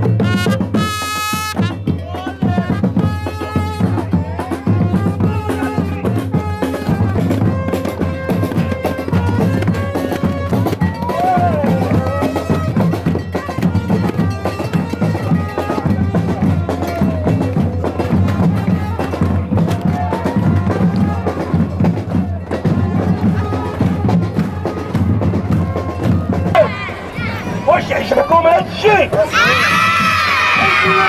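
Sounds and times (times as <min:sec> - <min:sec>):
drum and percussion beat: 0:00.0 - 0:31.0.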